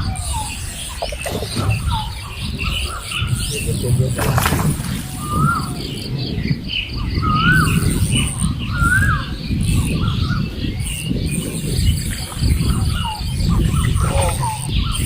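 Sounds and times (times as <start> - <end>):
birds whistling calls: 0.0 - 15.0.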